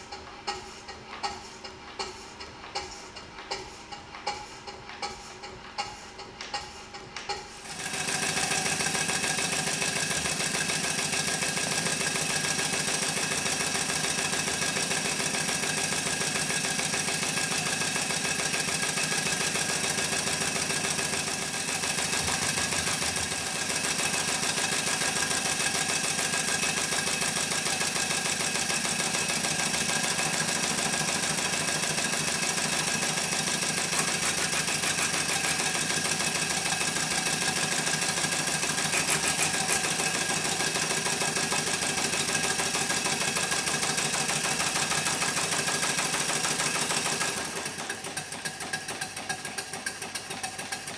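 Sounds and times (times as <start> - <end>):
steam engine exhaust beat: 0.0 - 50.9.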